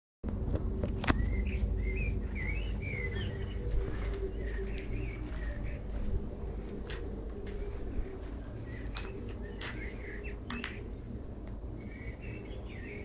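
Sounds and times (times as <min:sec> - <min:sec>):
low rumble: 0:00.2 - 0:13.0.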